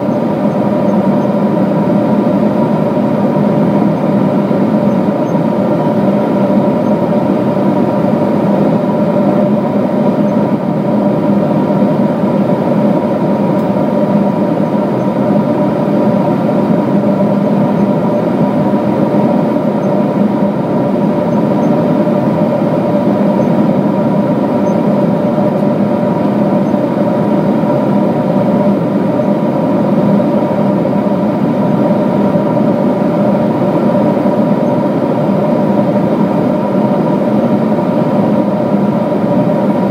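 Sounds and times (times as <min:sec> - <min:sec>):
constant hum tones: 0:00.0 - 0:39.9
jet engines roaring: 0:00.0 - 0:39.9.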